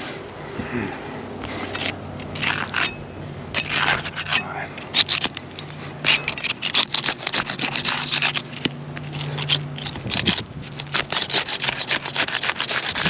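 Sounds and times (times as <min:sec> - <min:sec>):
shingles popping and scraping: 0:01.5 - 0:02.9, 0:03.6 - 0:13.0.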